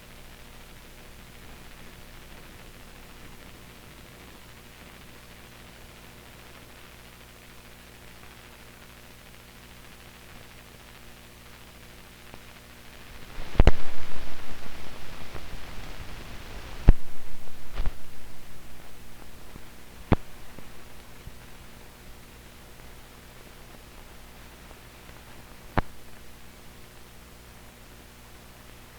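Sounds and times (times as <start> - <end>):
film soundtrack hiss and hum: 0.0 - 28.9.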